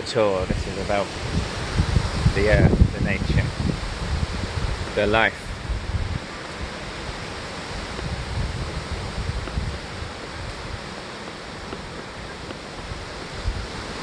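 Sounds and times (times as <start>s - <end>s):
wind blowing: 0.0s - 14.0s
wind buffeting microphone: 0.0s - 14.0s.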